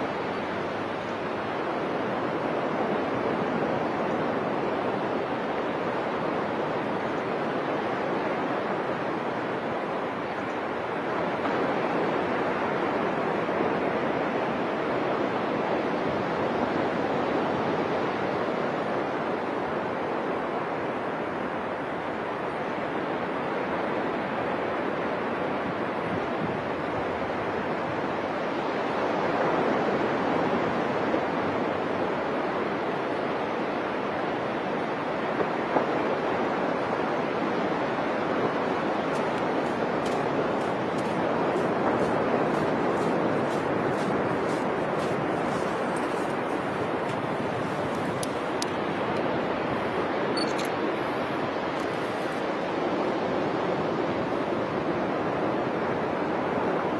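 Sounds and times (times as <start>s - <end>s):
ocean surf on beach: 0.0s - 56.9s.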